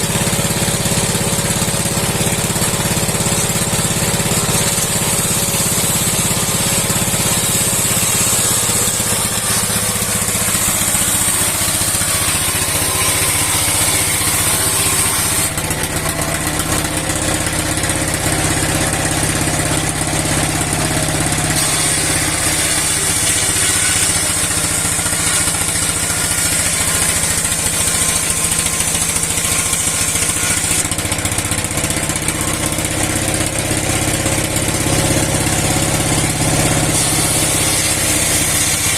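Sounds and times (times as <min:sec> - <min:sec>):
engine running: 0:00.0 - 0:38.9
saw cutting wood: 0:00.0 - 0:38.9.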